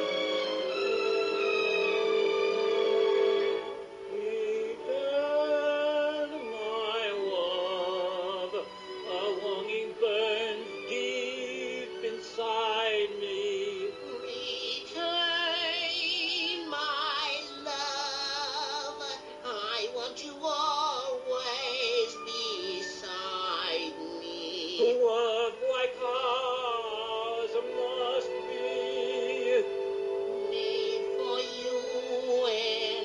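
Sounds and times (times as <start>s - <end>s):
orchestral accompaniment: 0.0s - 33.0s
operatic singing in cartoon voice: 4.1s - 29.8s, 30.5s - 33.0s.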